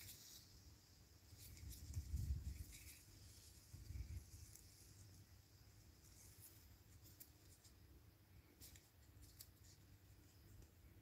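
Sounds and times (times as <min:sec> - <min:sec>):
gloved hands rustling in grass: 0:00.0 - 0:11.0.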